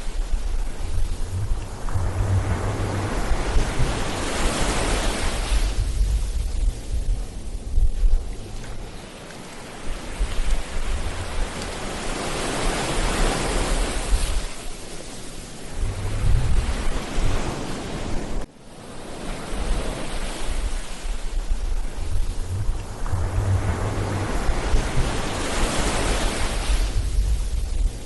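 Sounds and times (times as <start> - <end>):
ocean waves breaking on beach: 0.0 - 28.0
wind rumbling on microphone: 0.0 - 28.0.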